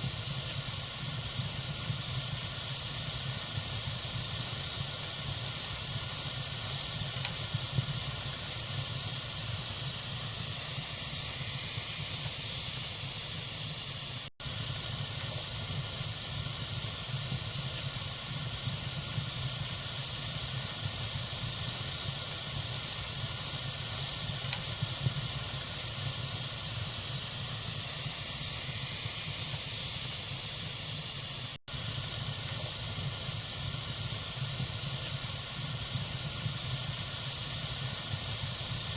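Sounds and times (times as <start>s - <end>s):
fire crackles: 0.0s - 38.9s
wood fire hissing: 0.0s - 38.9s.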